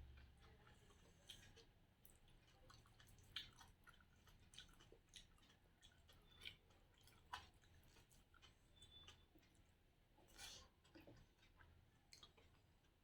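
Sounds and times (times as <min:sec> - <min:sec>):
wet chewing and lip smacks: 0:00.2 - 0:13.0.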